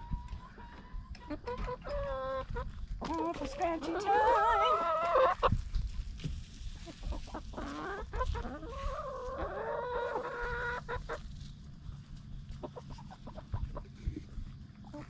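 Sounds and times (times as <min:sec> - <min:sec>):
hens clucking: 0:00.0 - 0:15.0
hens pecking grains off dirt: 0:00.0 - 0:15.0.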